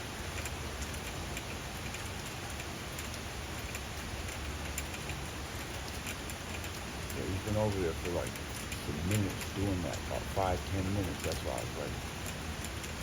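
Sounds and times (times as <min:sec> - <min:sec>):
rain falling: 0:00.0 - 0:13.0
raindrops ticking on surfaces: 0:00.0 - 0:13.0.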